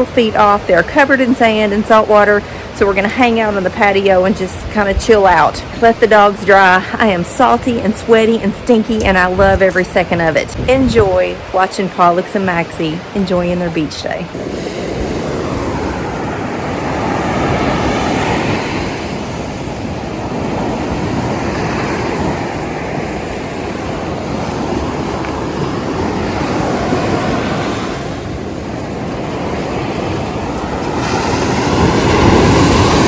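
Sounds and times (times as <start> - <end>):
wind rumbling on microphone: 0.0 - 11.7, 13.4 - 33.0
ocean surf washing onto beach: 0.0 - 33.0.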